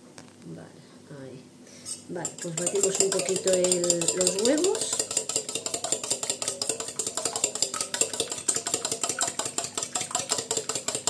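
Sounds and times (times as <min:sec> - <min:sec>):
fork beating eggs in metal bowl: 0:01.9 - 0:11.0.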